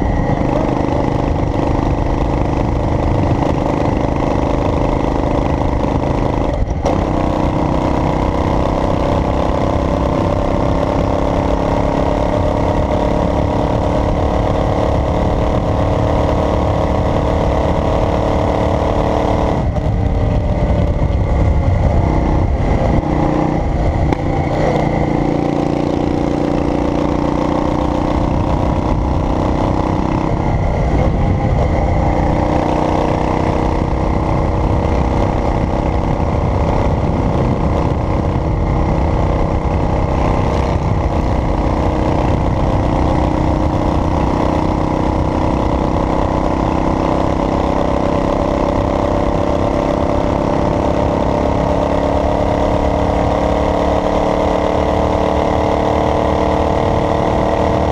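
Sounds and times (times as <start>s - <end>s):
car engine running: 0.0s - 57.9s
road rumble: 0.0s - 57.9s.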